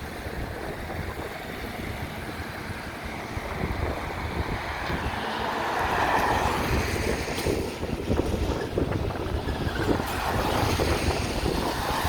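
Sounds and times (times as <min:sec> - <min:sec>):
road traffic passing: 0:00.0 - 0:12.0
wind buffeting microphone: 0:00.0 - 0:12.0.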